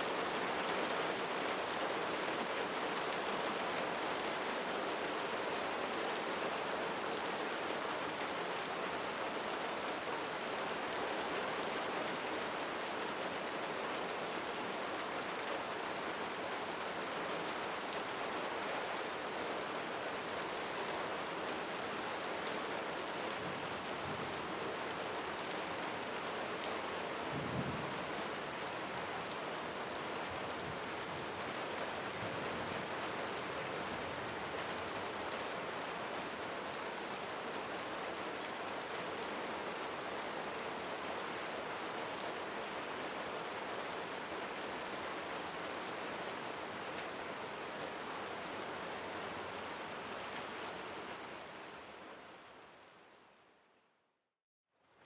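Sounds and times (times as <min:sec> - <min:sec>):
rain falling on leaves: 0:00.0 - 0:53.8.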